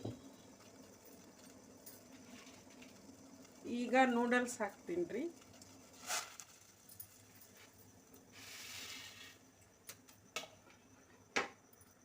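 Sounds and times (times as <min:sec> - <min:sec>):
boiling water hiss: 0:00.0 - 0:10.1.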